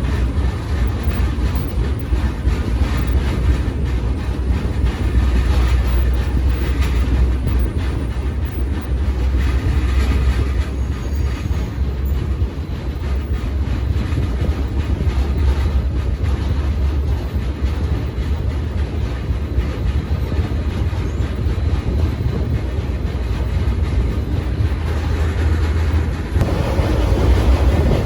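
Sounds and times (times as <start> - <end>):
rail car rattling: 0.0 - 28.0
train wheels rumbling on rail: 0.0 - 28.0.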